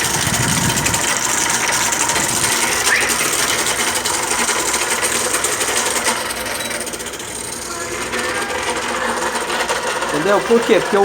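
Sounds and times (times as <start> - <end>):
fan grinding against ice: 0.0 - 11.0.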